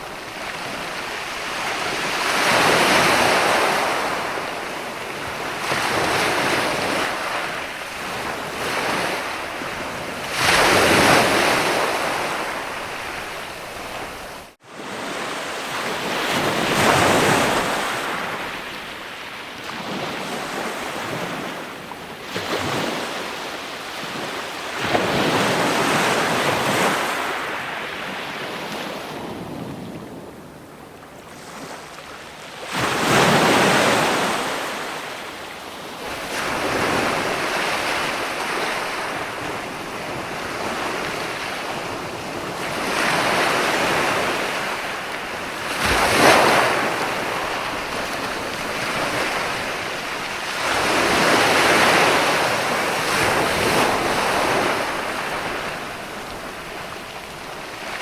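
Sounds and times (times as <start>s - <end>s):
ocean waves breaking: 0.0s - 58.0s
wind: 0.0s - 58.0s.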